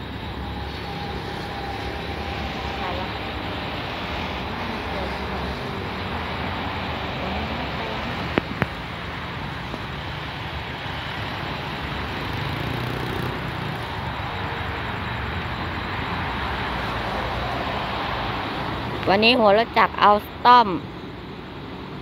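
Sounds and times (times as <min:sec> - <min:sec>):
locomotive engine drone: 0:00.0 - 0:22.0.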